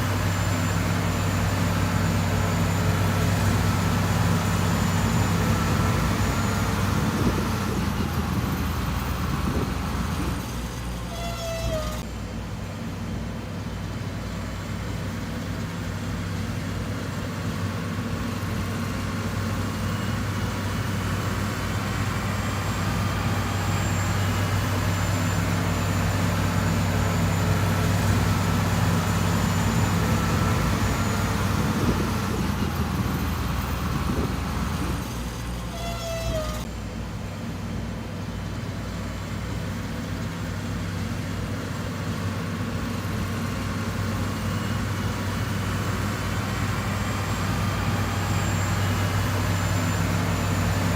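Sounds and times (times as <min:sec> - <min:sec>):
heavy diesel engine humming: 0:00.0 - 0:50.9.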